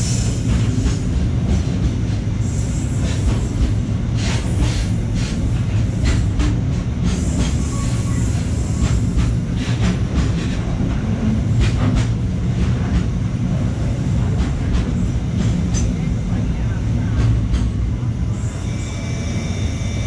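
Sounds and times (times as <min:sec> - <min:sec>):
train wheels clacking over rail joints: 0:00.0 - 0:17.9
train low rumble: 0:00.0 - 0:20.0.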